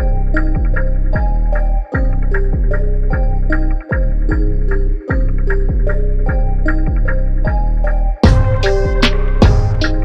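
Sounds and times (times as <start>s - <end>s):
music with steady beat and deep bass: 0.0s - 10.0s.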